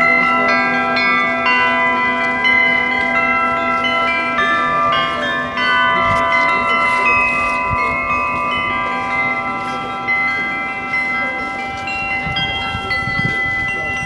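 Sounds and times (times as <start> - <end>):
flat metal bells ringing: 0.0 - 14.0.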